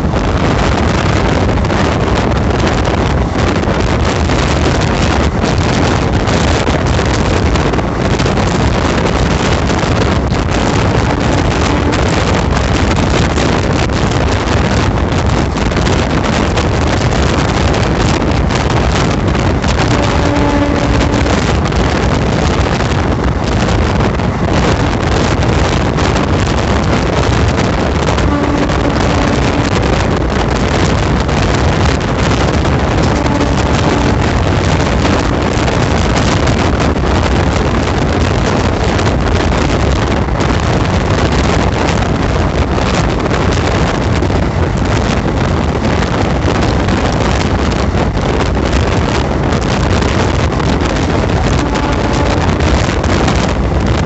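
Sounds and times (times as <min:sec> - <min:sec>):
train rushing at speed: 0:00.0 - 0:54.0
wind buffeting microphone: 0:00.0 - 0:54.0.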